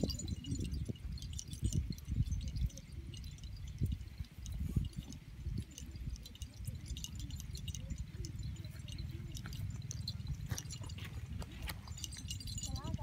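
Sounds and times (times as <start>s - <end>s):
horse chewing grass: 0.0s - 13.0s.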